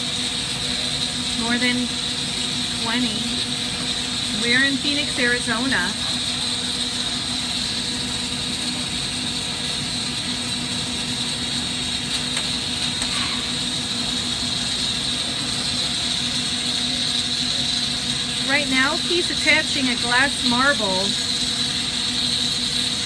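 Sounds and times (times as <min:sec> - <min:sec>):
exhaust fan hum: 0:00.0 - 0:23.0
torch burning hiss: 0:00.0 - 0:23.0.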